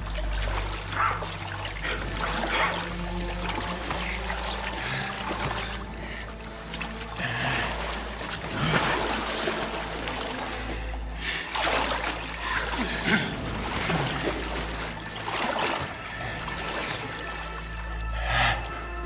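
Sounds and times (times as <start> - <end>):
low film score drone: 0.0 - 19.0
water splashing from wading: 0.0 - 19.0.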